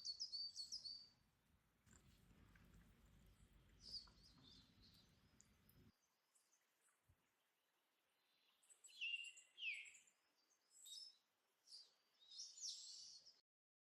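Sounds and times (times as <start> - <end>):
birds chirping: 0.0 - 1.2, 1.9 - 7.5, 8.1 - 13.4.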